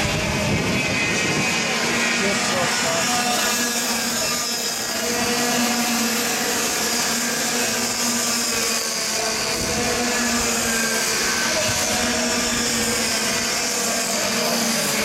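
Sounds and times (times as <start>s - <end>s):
kart engines racing: 0.0s - 15.0s.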